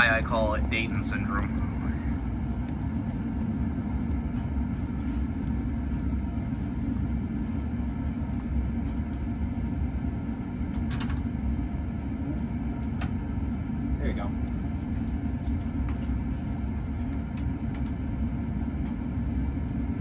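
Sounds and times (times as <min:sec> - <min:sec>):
furnace rumbling: 0:00.0 - 0:20.0.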